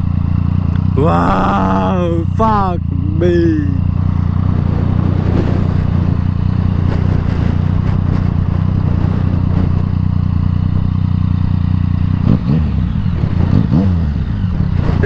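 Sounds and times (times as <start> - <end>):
motorcycle engine running: 0.0 - 1.0, 2.9 - 15.0.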